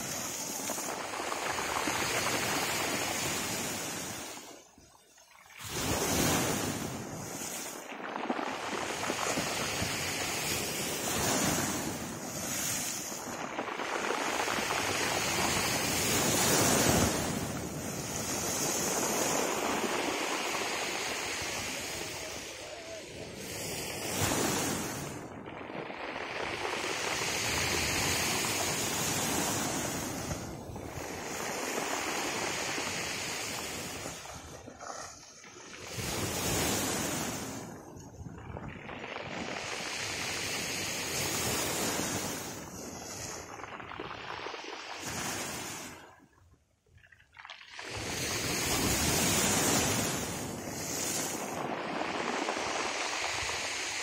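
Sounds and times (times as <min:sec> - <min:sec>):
waves breaking on a shore: 0:00.0 - 0:54.0.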